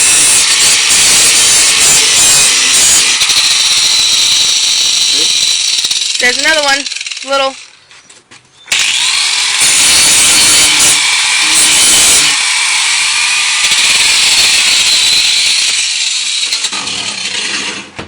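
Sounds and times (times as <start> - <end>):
power grinder grinding metal: 0.0 - 7.7, 8.7 - 17.9.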